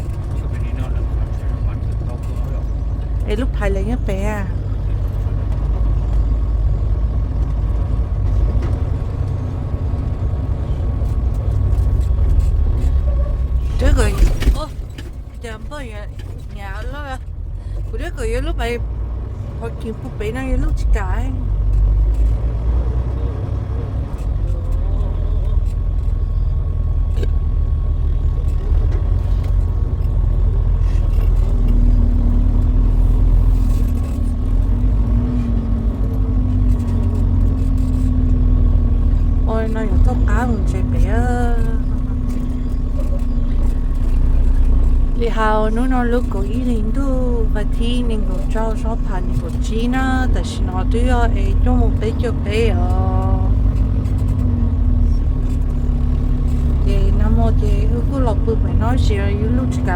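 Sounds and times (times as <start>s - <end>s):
road noise: 0.0s - 59.9s
truck engine rumble: 0.0s - 59.9s.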